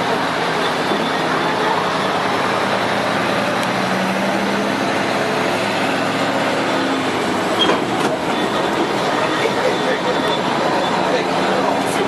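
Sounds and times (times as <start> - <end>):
vehicle motor hum: 0.0 - 12.0.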